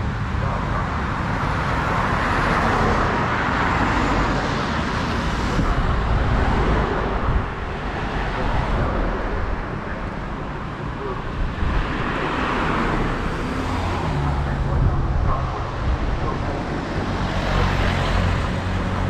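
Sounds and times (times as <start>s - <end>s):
traffic passing on street: 0.0s - 19.0s.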